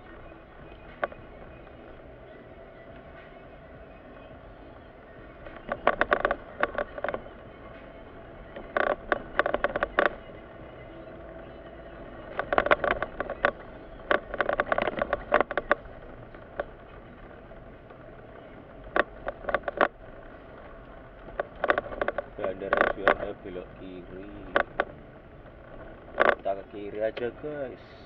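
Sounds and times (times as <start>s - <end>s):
engine and road hum: 0.0s - 28.0s
rapid clicking and rattling knocks: 4.5s - 27.8s.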